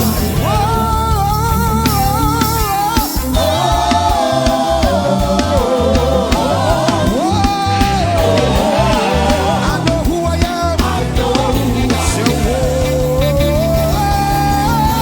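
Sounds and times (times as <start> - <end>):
band with bass and drums: 0.0 - 15.0
voices singing together: 0.0 - 15.0.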